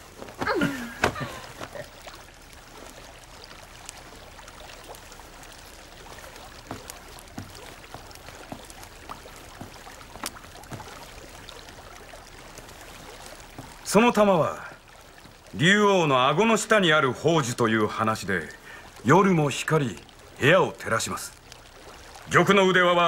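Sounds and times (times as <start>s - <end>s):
water drips and plinks: 0.0s - 23.0s
water trickling: 0.0s - 23.0s.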